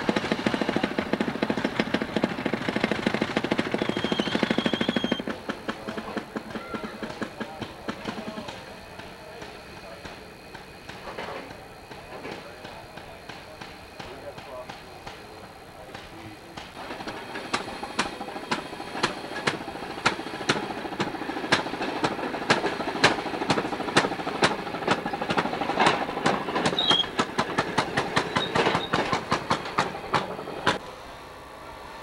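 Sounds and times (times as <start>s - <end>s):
railroad motorcars clacking on rails: 0.0s - 32.0s
small engines clacking: 0.0s - 32.0s.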